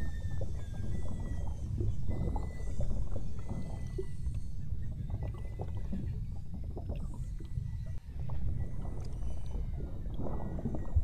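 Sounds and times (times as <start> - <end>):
low rumble of moving water: 0.0 - 11.0
whale clicks: 0.0 - 11.0
whale whistles: 0.0 - 11.0.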